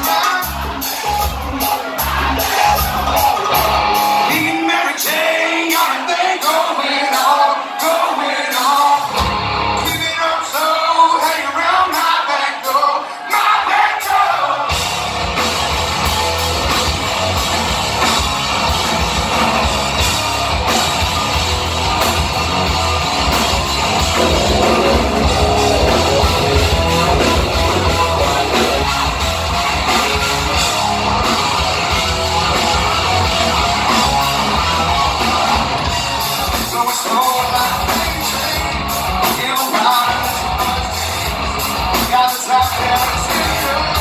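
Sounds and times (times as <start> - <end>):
live hard rock band: 0.0 - 44.0.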